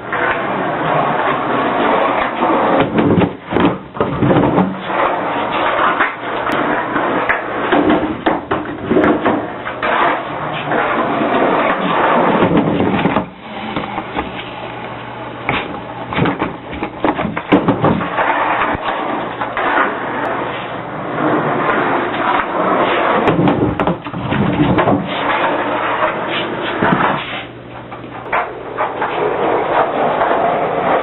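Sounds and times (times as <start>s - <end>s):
skateboard knocks and clacks: 0.0s - 14.4s, 15.5s - 27.5s, 28.2s - 31.0s
skateboard wheels rolling: 0.0s - 31.0s.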